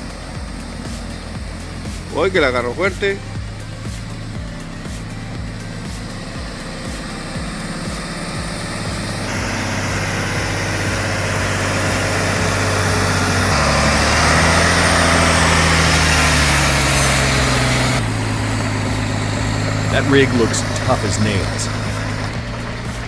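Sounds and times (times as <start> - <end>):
truck diesel engine under load: 0.0 - 23.0.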